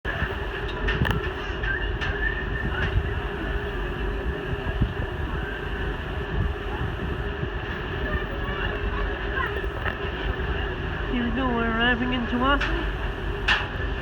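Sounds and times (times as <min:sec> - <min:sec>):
ferry engines rumbling: 0:00.0 - 0:14.0
constant hum: 0:00.1 - 0:14.0.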